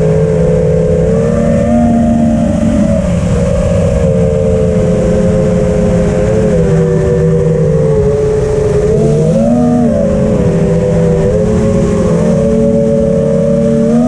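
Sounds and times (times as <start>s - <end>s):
low rumbling noise: 0.0s - 14.0s
quadcopter motors whining: 0.0s - 14.0s.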